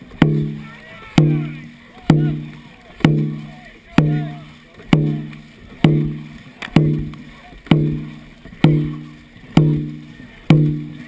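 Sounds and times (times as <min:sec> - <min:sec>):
drum beating: 0:00.0 - 0:11.0.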